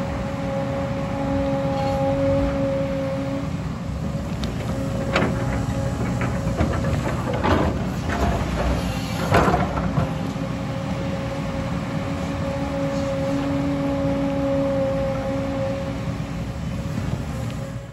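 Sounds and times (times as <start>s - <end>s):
excavator diesel engine running: 0.0s - 17.9s
hydraulic whine: 0.0s - 17.9s.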